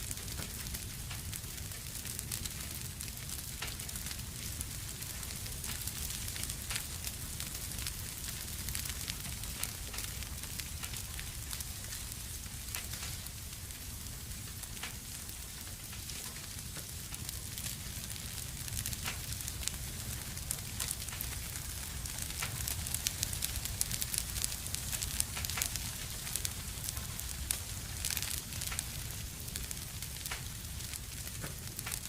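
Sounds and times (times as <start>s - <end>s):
low rush of flames: 0.0s - 32.0s
wood fire crackling and popping: 0.0s - 32.0s.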